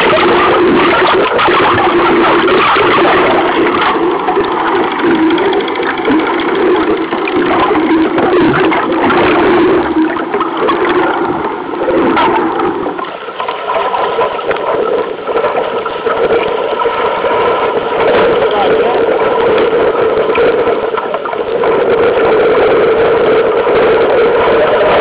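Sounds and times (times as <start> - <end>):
muffled underwater rushing water: 0.0 - 25.0.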